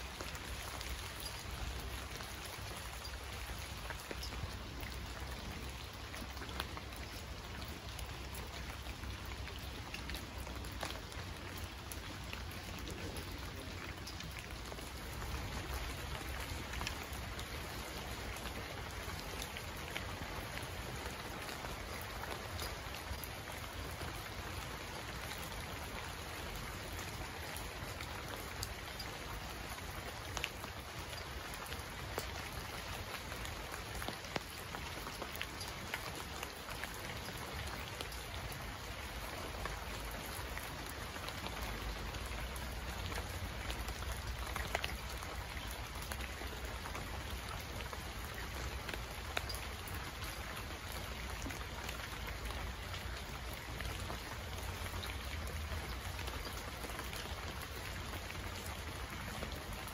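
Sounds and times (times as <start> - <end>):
heavy rain: 0.0 - 59.9
raindrop ticks: 0.0 - 59.9.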